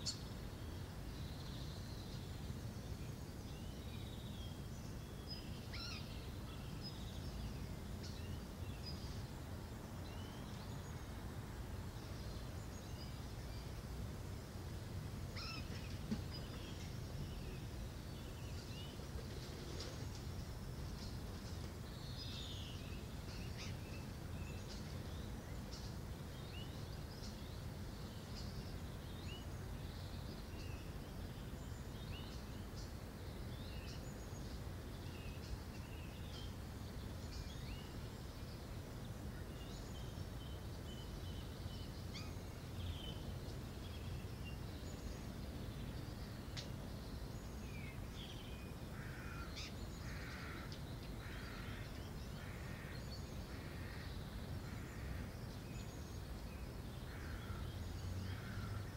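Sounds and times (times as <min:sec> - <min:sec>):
low background noise: 0:00.0 - 0:58.9
small birds chirping: 0:00.0 - 0:58.9.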